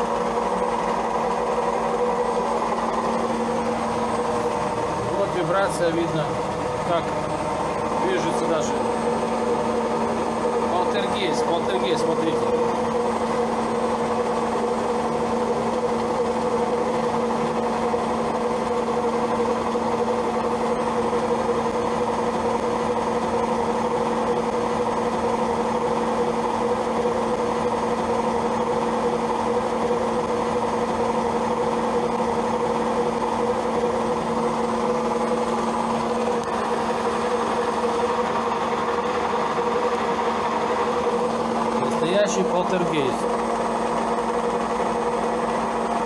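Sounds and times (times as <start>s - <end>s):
washing machine spin cycle hum: 0.0s - 46.0s.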